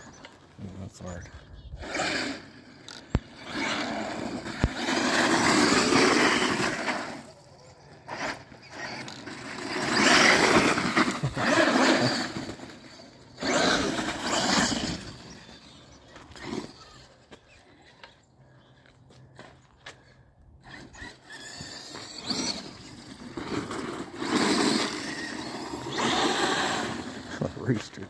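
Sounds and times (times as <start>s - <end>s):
rc truck motor and tyres in snow: 0.0s - 28.0s.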